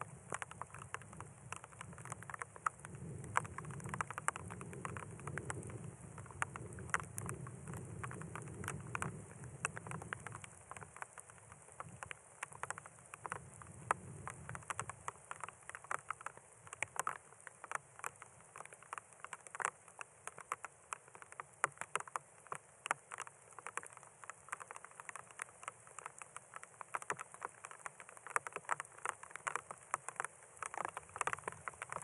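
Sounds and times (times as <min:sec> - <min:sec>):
raindrops pattering: 0:00.0 - 0:32.0.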